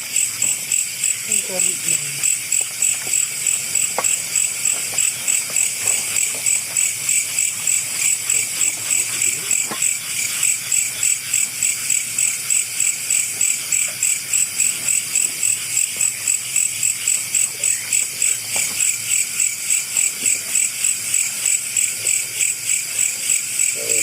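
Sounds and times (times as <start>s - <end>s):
night insects chirping: 0.0s - 24.0s.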